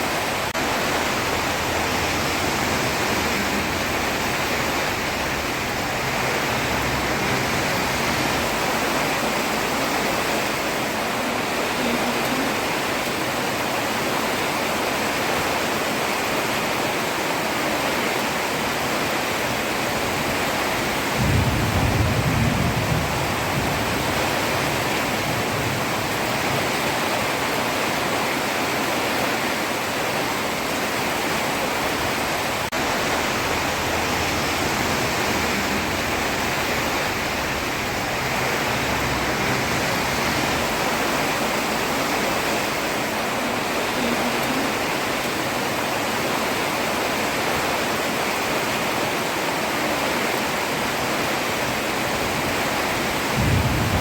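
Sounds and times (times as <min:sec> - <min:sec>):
heavy rain on road: 0:00.0 - 0:54.0.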